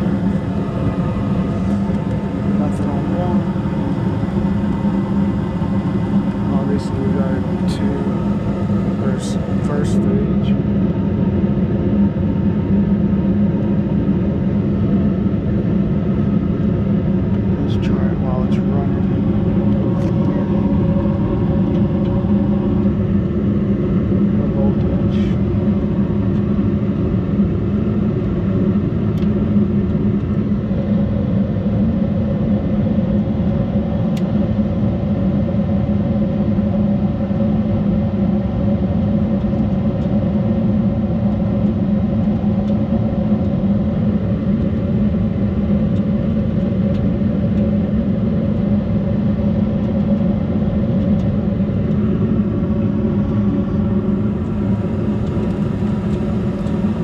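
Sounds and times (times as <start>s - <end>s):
gas furnace humming: 0.0s - 57.0s.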